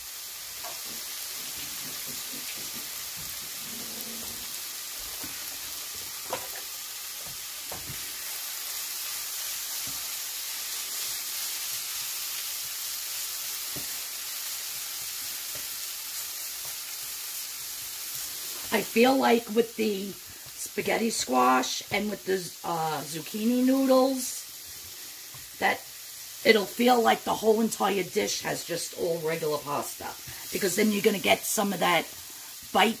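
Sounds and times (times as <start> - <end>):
food sizzling in a frying pan: 0.0 - 33.0.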